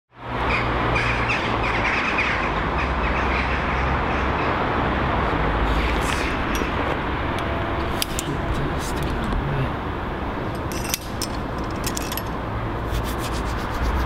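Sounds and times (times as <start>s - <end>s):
steady rumbling background noise: 0.2s - 14.0s.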